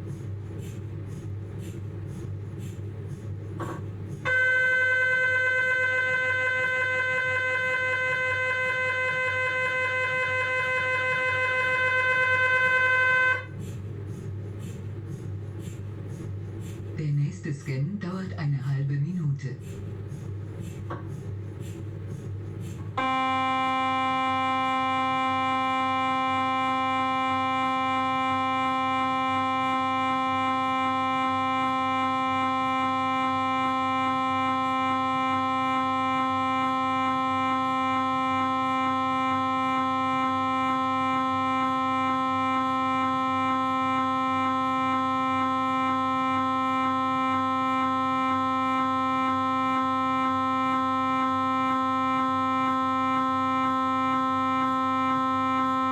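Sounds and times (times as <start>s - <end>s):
mri scanner loud pitched buzz: 0.0s - 17.5s, 19.6s - 55.9s
low hum: 0.0s - 55.9s.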